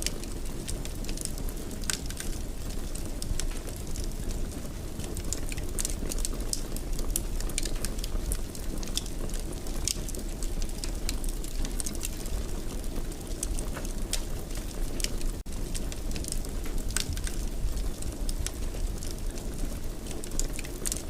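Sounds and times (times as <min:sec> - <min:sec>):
low rumble of burning: 0:00.0 - 0:21.0
wood fire crackling and popping: 0:00.0 - 0:21.0.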